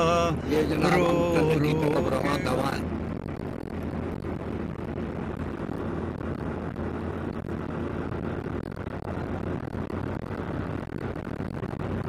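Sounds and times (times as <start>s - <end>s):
car engine and tyre drone: 0.0s - 12.0s
low hum: 0.0s - 12.0s.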